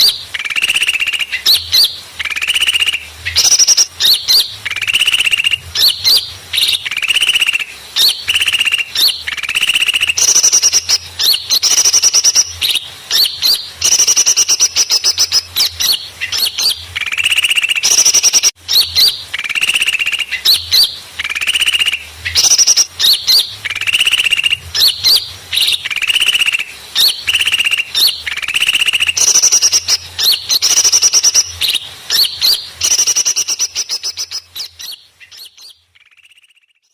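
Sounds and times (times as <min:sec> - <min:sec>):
small birds chirping and trilling: 0:00.0 - 0:36.9.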